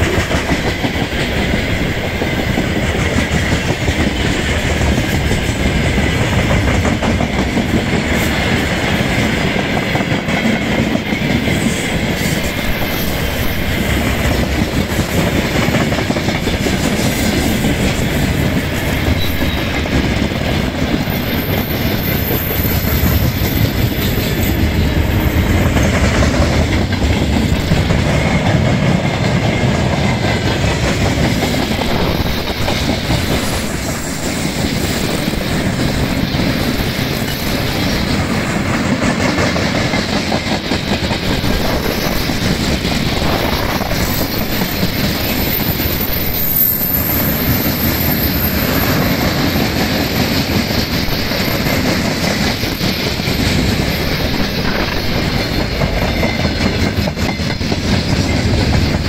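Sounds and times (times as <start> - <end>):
freight train wheels rumbling: 0.0 - 59.0
wheels clacking over rail joints: 0.0 - 59.0.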